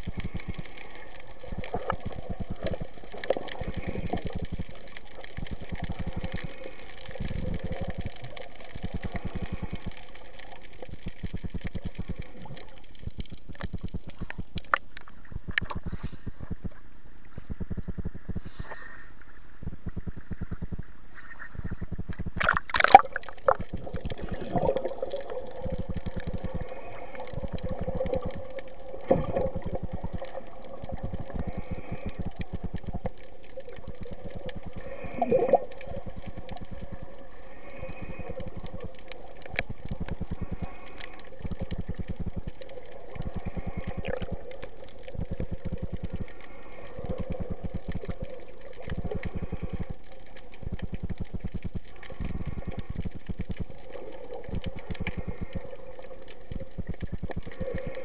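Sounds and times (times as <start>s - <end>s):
fine underwater crackling: 0.0s - 58.0s.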